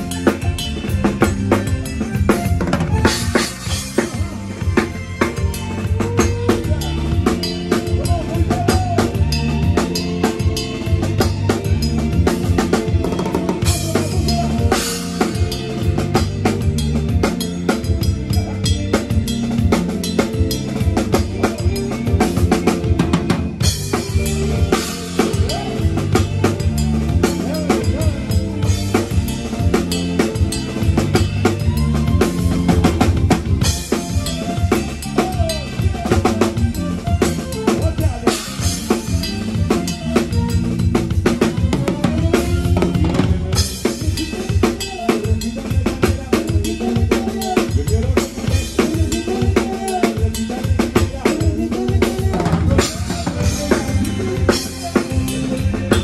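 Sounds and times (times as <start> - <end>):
bass line: 0.0 - 56.0
drum kit playing: 0.0 - 56.0.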